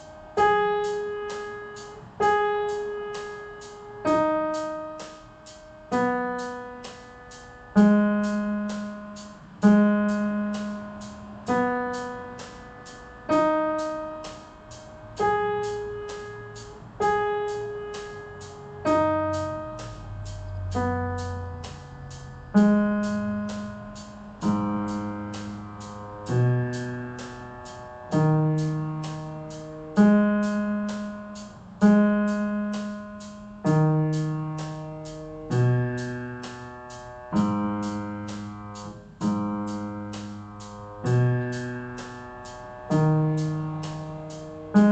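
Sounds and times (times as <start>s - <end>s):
piano arpeggio: 0.0s - 44.9s.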